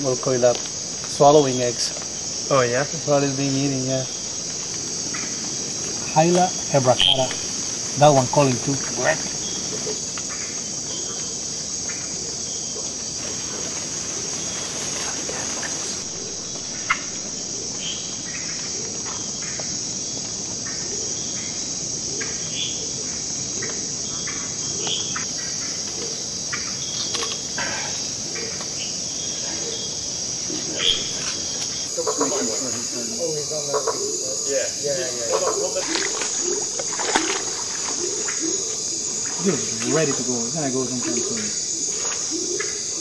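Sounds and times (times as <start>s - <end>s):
crickets and insects chorus: 0.0s - 43.0s
tree frogs chirping: 0.0s - 43.0s.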